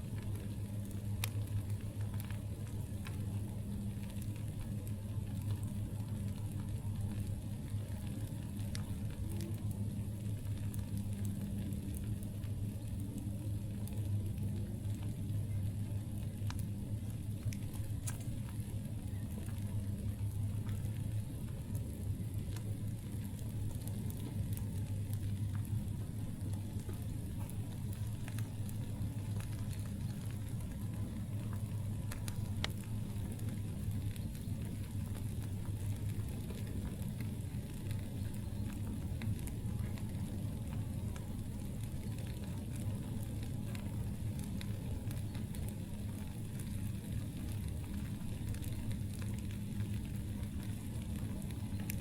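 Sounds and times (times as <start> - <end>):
crackling and popping wood: 0.0 - 52.0
low fire rumble: 0.0 - 52.0.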